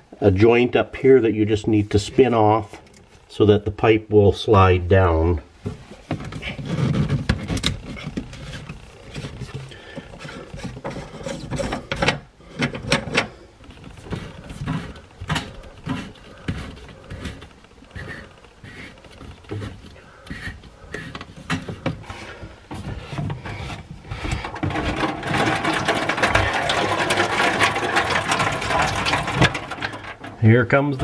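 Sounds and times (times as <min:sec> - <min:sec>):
plastic pipe knocks and scrapes: 0:05.6 - 0:30.5.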